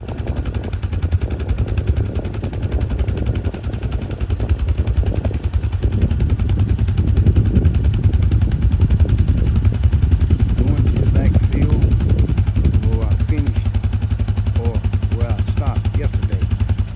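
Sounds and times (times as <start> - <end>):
tractor engine running under load: 0.0 - 16.9.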